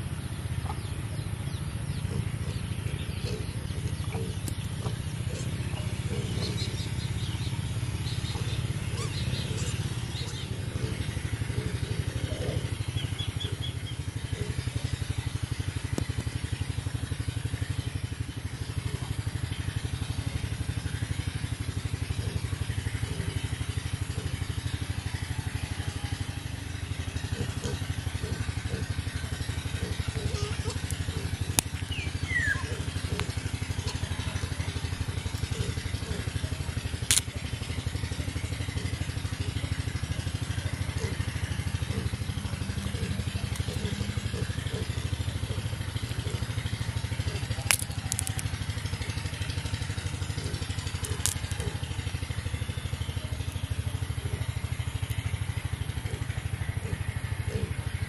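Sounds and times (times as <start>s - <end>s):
birds chirping: 0.0s - 58.0s
small engine running: 0.0s - 58.0s.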